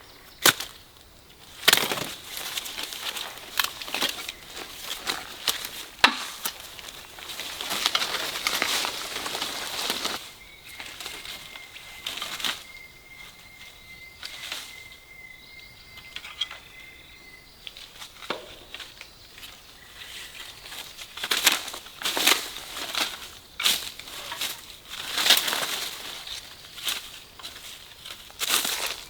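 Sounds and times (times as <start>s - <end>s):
dry leaves rustling and crackling: 0.4s - 15.4s, 17.1s - 29.0s.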